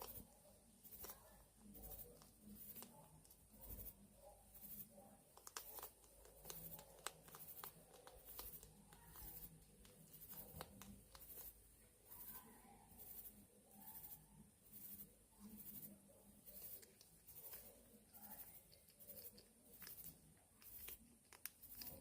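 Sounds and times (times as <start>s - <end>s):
hedgehogs clicking and scratching: 0.0s - 22.0s.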